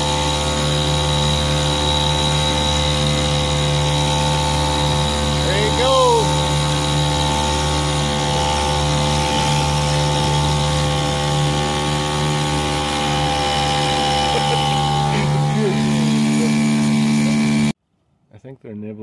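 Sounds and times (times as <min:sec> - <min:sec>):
outboard motor drone: 0:00.0 - 0:17.8.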